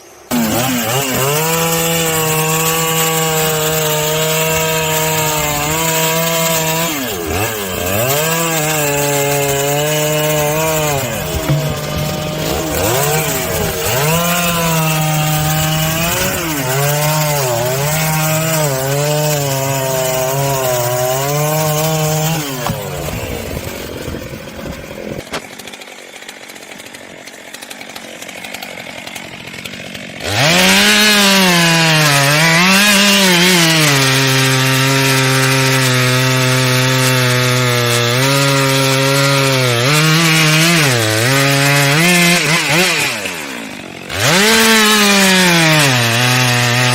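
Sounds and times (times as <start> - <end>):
chainsaw cutting at high speed: 0.0 - 46.9.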